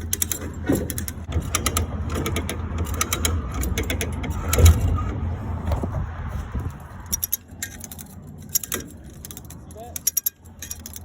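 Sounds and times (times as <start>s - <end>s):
winch ratchet clicking: 0.0s - 5.2s, 7.0s - 11.0s
steady low rumble: 0.0s - 11.0s.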